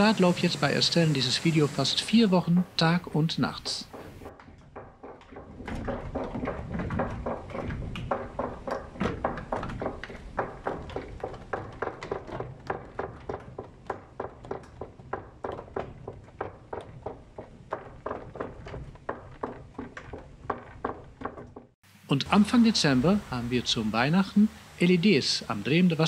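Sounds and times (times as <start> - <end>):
wooden gear cogs clacking: 0.0 - 26.0.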